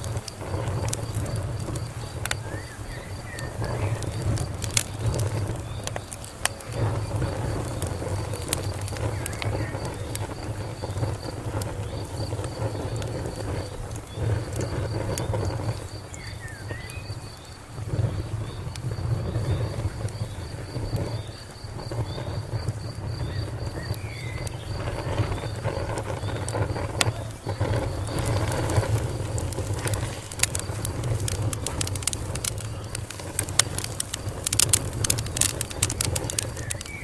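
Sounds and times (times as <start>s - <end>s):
low steady rumble: 0.0s - 36.9s
crickets chirping: 0.0s - 37.0s
wood fire crackling and popping: 0.0s - 37.0s.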